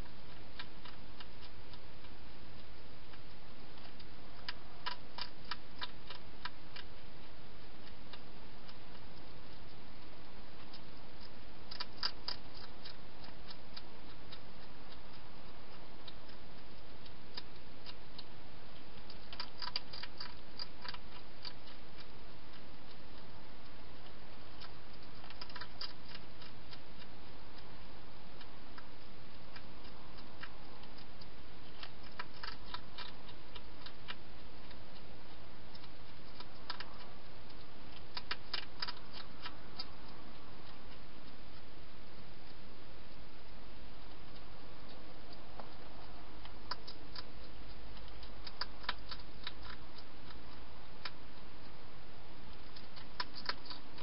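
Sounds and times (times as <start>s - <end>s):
hedgehog chewing clicks: 0.0s - 54.0s
steady hiss: 0.0s - 54.0s.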